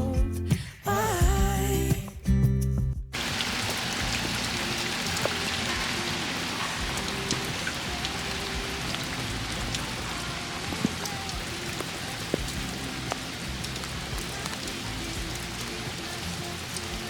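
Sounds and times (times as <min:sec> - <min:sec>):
steady rain falling: 0:03.2 - 0:17.0.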